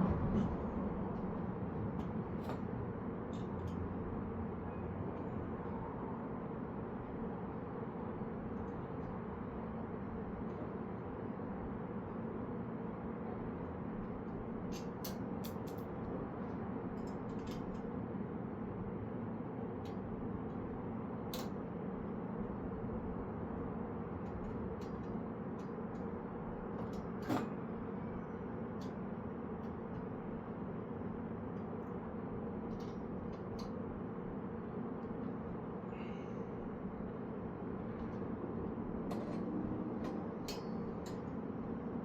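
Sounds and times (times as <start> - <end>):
steady background hum: 0.0 - 42.0.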